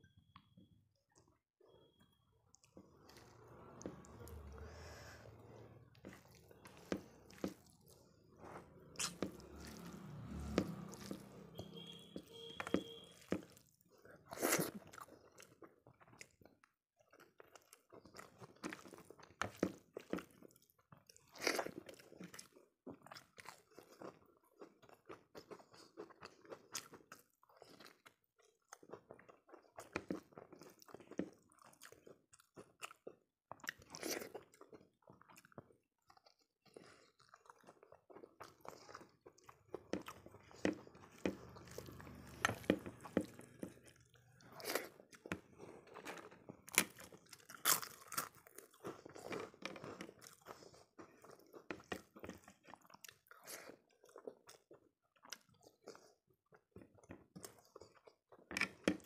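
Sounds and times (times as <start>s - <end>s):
close chewing with crunches: 2.5s - 59.0s.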